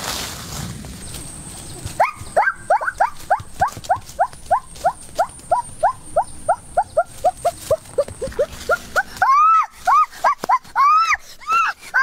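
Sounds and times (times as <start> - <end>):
animal yelping calls: 1.8 - 12.0.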